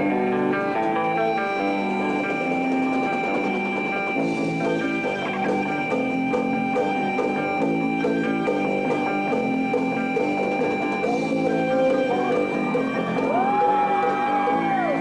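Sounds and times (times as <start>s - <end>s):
drum kit beat: 0.0s - 15.0s
electric guitars: 0.0s - 15.0s
live rock band playing: 0.0s - 15.0s.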